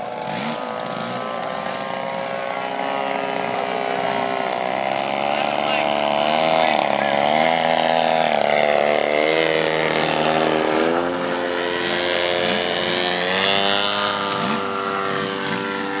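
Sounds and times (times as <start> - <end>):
model airplane engine and propeller: 0.0 - 16.0.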